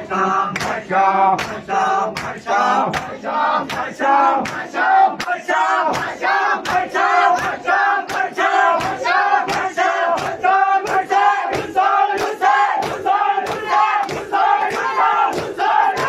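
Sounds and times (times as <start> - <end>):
men chanting in unison: 0.0 - 16.0
hands slapping chests: 0.5 - 16.0.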